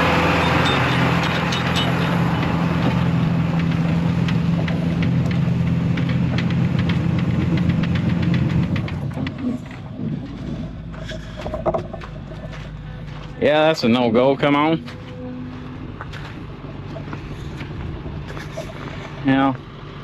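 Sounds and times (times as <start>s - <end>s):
truck engine revving high: 0.0s - 20.0s.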